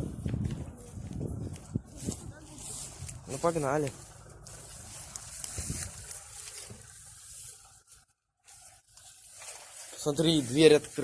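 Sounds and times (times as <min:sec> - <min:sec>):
footsteps through grass: 0:00.0 - 0:11.0.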